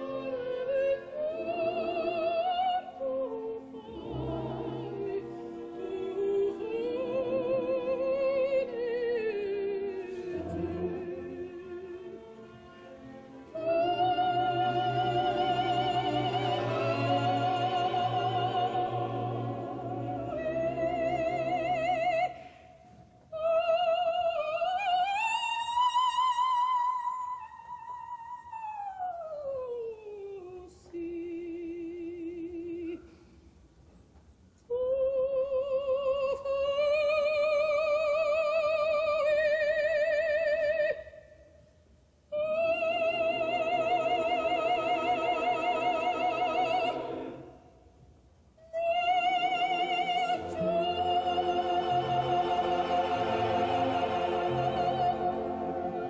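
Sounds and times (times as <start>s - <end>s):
operatic soprano singing: 0.0s - 22.6s, 23.2s - 33.1s, 34.7s - 41.3s, 42.3s - 47.6s, 48.6s - 56.0s.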